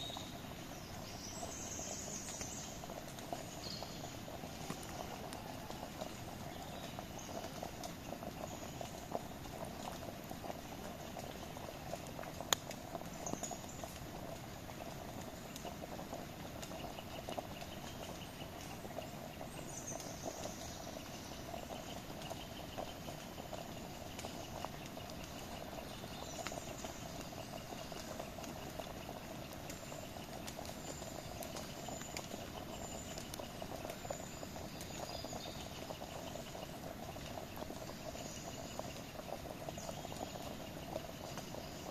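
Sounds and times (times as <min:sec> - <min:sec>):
campfire crackling and hissing: 0:00.0 - 0:41.9.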